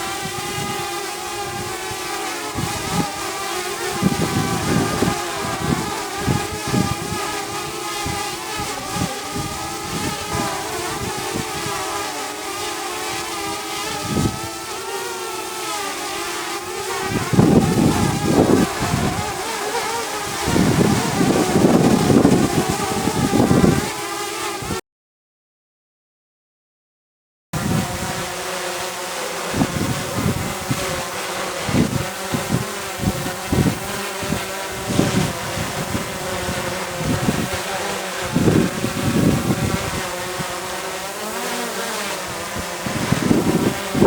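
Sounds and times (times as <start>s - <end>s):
wind buffeting microphone: 0.0s - 14.9s, 16.6s - 24.0s, 27.6s - 28.4s, 29.5s - 40.9s, 42.2s - 44.0s
drone motors whining: 0.0s - 24.3s, 27.6s - 44.0s.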